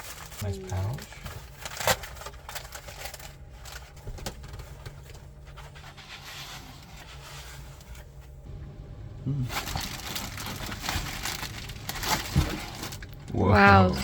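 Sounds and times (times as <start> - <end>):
pouch and packaging handled: 0.0 - 8.4, 9.4 - 14.0
steady low hum: 0.0 - 14.0.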